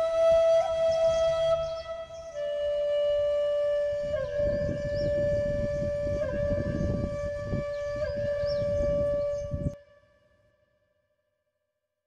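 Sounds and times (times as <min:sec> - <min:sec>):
flute-like wind instrument: 0:00.0 - 0:10.4.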